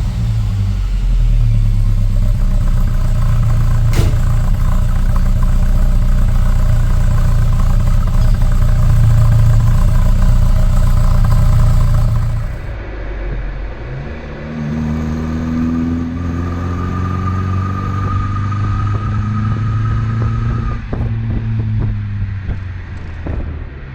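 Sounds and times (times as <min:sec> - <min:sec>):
car engine droning: 0:00.0 - 0:23.9.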